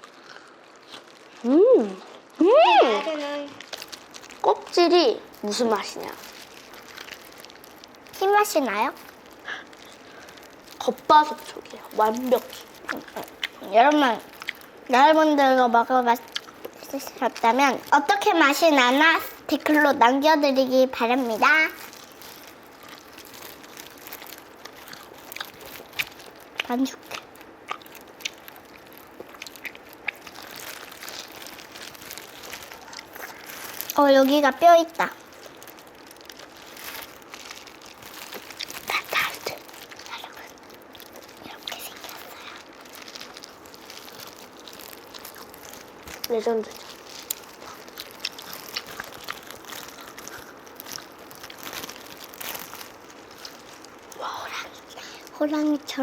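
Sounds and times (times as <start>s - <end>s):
crunchy food being chewed: 0.0s - 2.4s, 3.5s - 56.0s.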